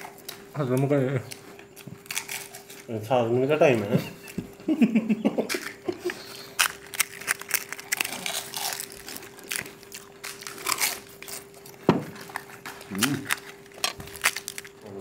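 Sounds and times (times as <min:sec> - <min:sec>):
crunchy food being chewed: 0:00.0 - 0:02.9, 0:05.5 - 0:15.0
faint steady hum: 0:00.0 - 0:15.0.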